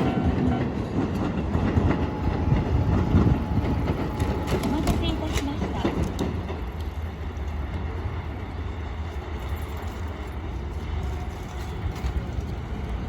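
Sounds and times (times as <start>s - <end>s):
electric train running past: 0.0s - 13.0s.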